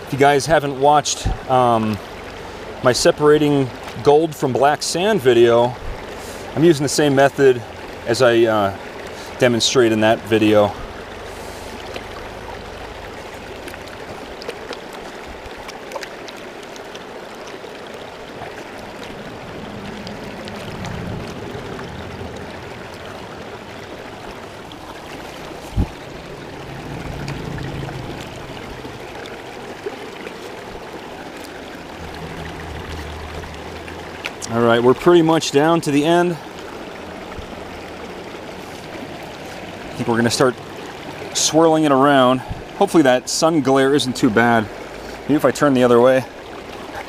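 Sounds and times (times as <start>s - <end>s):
creek water running over rocks: 0.0s - 47.0s.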